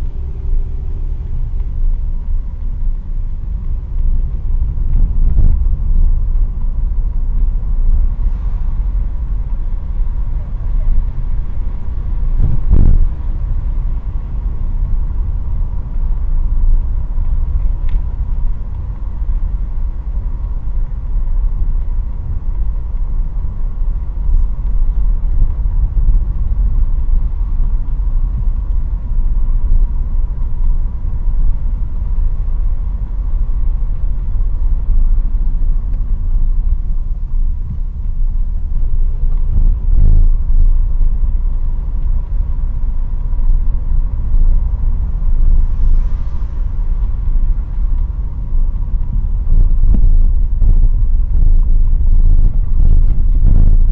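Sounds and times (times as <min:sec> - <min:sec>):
faint steady hum: 0:00.0 - 0:53.9
road and engine rumble: 0:00.0 - 0:53.9.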